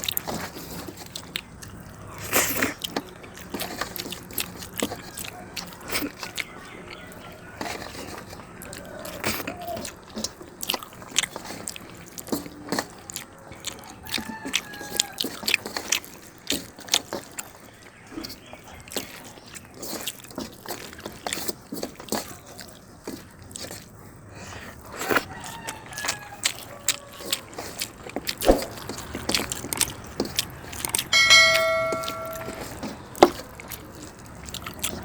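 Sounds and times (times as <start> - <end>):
person chewing crunchy food: 0.0 - 35.0.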